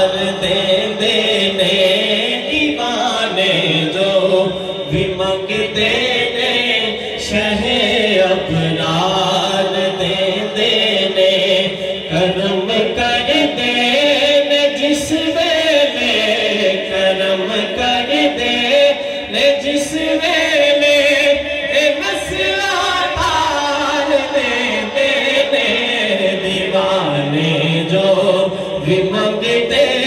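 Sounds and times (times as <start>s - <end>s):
man singing into a microphone: 0.0s - 30.0s.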